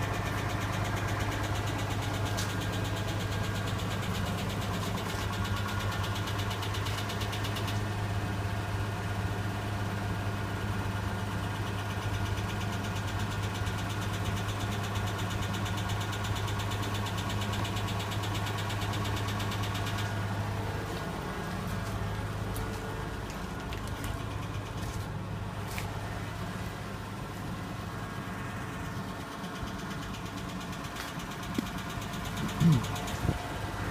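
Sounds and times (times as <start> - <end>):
car engine idling with lifter ticking: 0.0 - 33.9.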